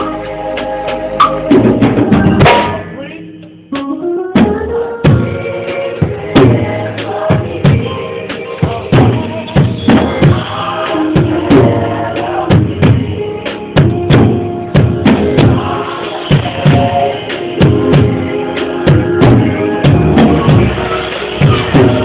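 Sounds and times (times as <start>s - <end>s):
drum kit beating: 0.0s - 22.0s.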